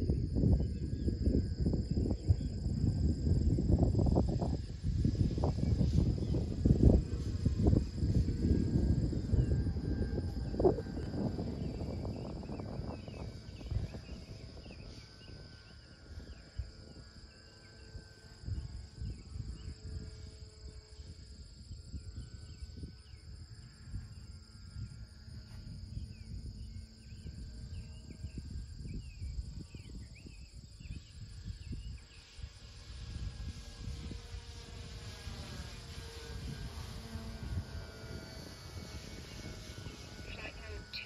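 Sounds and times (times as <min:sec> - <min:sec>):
crickets chirping: 0:00.0 - 0:41.0
wind rumble on microphone: 0:00.0 - 0:41.0.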